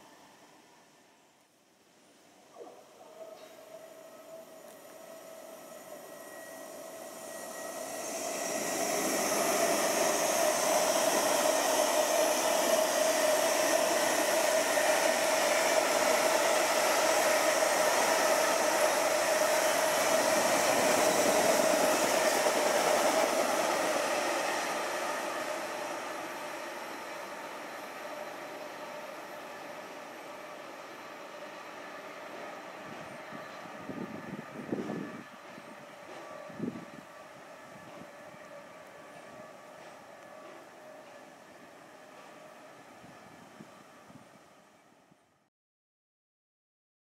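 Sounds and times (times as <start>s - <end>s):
freight train rolling past: 3.2s - 45.4s.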